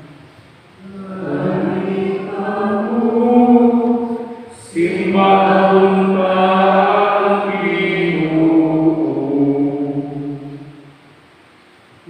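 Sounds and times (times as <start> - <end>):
liturgical chant singing: 0.8 - 11.0.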